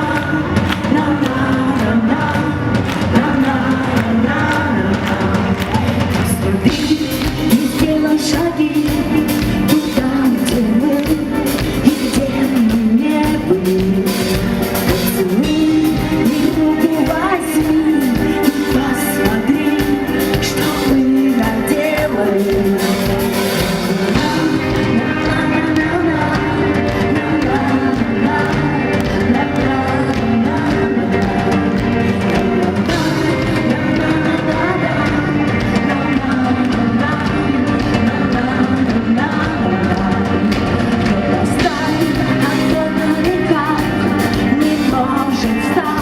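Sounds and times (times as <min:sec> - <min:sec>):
live rock band: 0:00.0 - 0:46.0
woman singing: 0:00.0 - 0:46.0.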